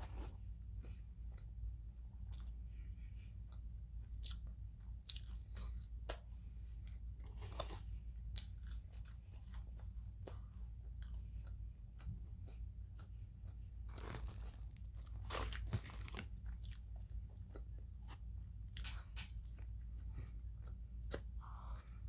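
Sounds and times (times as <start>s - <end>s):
person chewing crunchy food: 0.0s - 22.0s
steady low hum: 0.0s - 22.0s.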